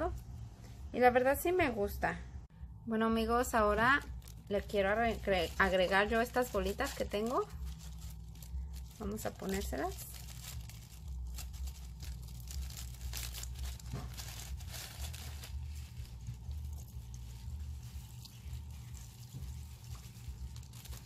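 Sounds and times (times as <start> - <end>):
low hum: 0.0 - 21.0
plastic bag rustling: 3.6 - 21.0.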